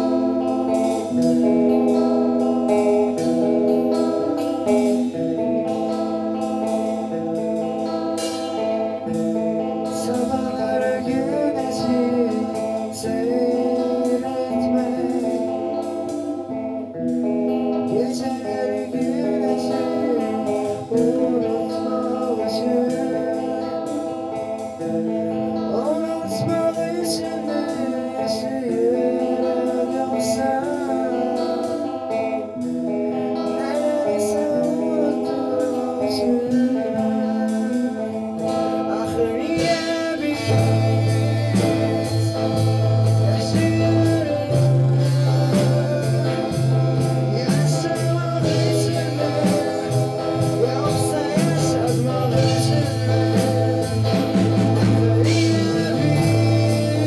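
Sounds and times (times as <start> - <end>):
bass guitar: 0.0 - 57.0
electric guitars: 0.0 - 57.0
person singing: 0.0 - 57.0
steady drums: 0.0 - 57.0.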